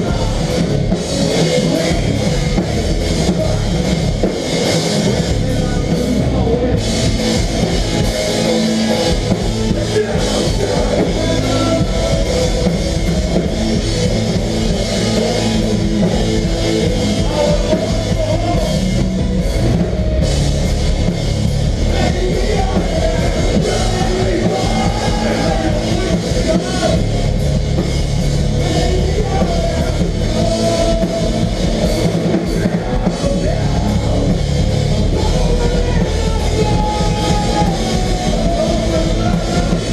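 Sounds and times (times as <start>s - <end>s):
bass guitar: 0.0s - 39.9s
distorted guitars: 0.0s - 39.9s
drum kit with cymbals: 0.0s - 39.9s.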